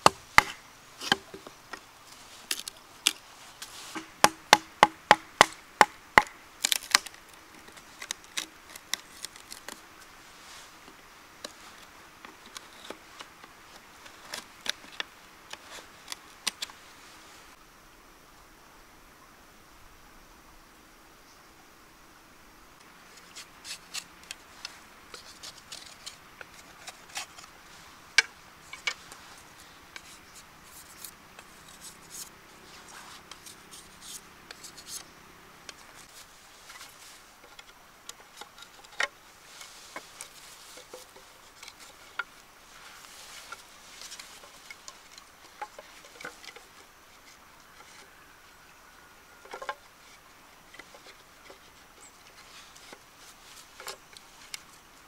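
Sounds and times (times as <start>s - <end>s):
knife working bamboo: 0.0s - 16.8s, 22.9s - 48.3s, 49.4s - 54.8s.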